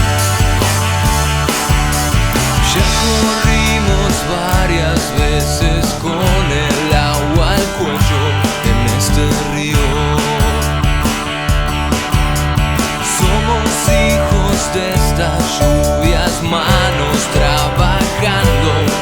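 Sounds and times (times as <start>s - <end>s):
drum kit beat: 0.0s - 19.0s
rock band playing: 0.0s - 19.0s.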